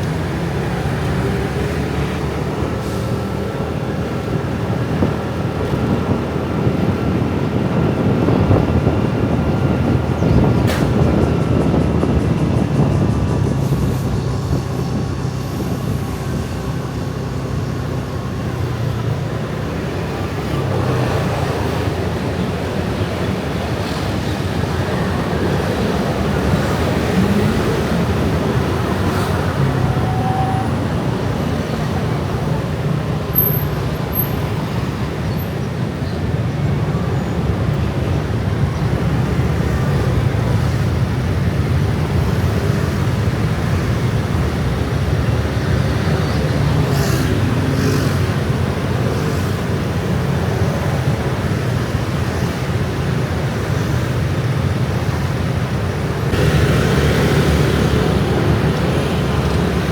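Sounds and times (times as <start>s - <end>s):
scooters and motorbikes passing: 0.0s - 59.9s.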